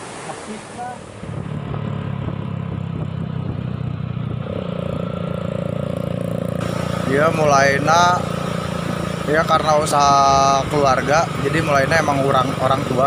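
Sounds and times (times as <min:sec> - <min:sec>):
motorcycle engines running: 0:01.1 - 0:13.0.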